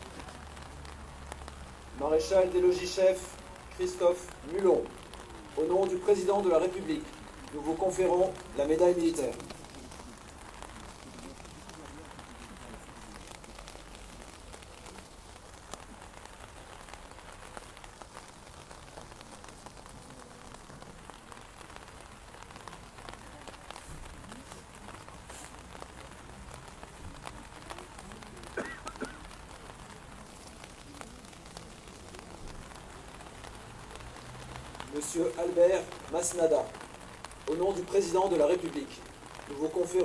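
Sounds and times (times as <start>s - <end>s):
raindrops ticking on umbrellas: 0.0s - 40.0s
steady rain falling: 0.0s - 40.0s.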